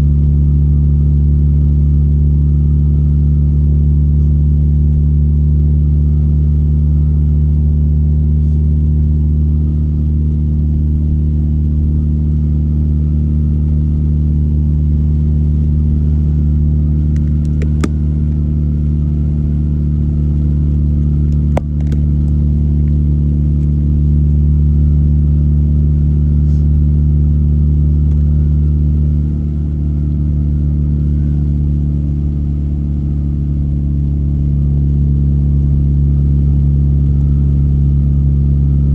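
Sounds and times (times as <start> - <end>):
car engine and road drone: 0.0 - 38.9.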